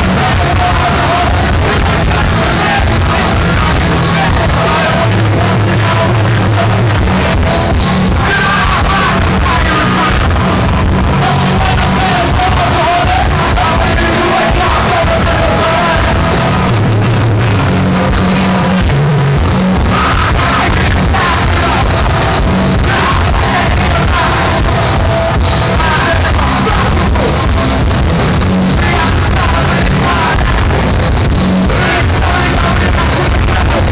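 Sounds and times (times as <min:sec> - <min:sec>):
distorted guitars: 0:00.0 - 0:33.9
drums: 0:00.0 - 0:33.9
shouted vocals: 0:00.0 - 0:33.9.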